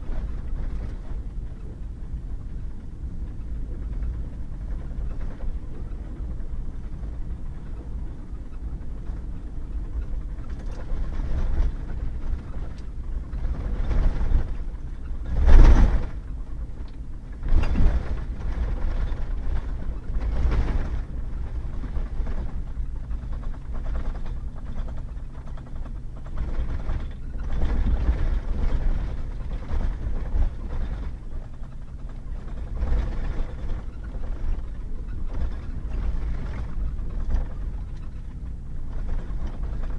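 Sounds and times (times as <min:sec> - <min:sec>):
thuds and rattles over bumps: 0:00.0 - 0:39.9
truck engine and tyre rumble: 0:00.0 - 0:39.9.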